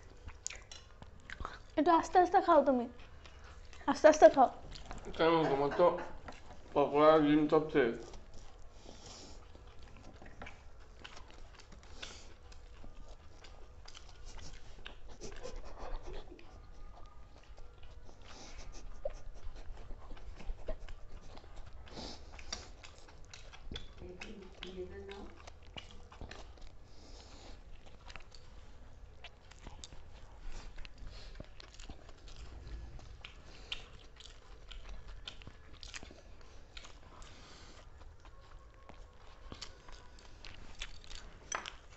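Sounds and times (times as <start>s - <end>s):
chewing and mouth noises: 0.0s - 41.9s.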